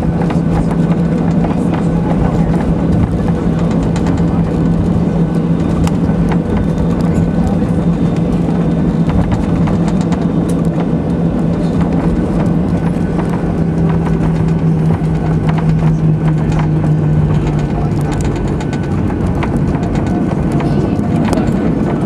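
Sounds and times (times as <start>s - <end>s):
constant rushing noise: 0.0s - 22.0s
jet engines humming: 0.0s - 22.0s
light clicks and rattles: 0.2s - 22.0s.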